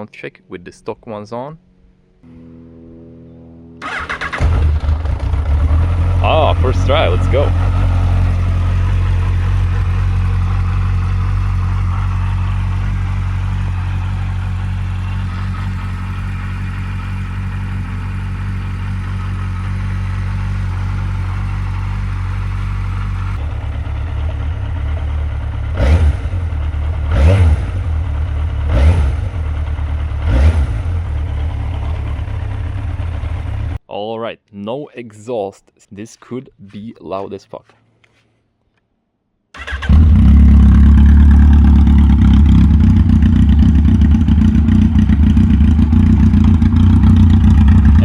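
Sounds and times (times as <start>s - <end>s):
motorcycle engine idling and revving: 2.3s - 33.8s, 39.6s - 48.0s.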